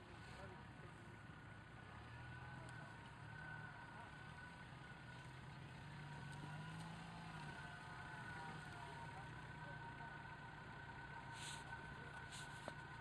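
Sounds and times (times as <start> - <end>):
faint engine running at low revs: 0.0 - 13.0.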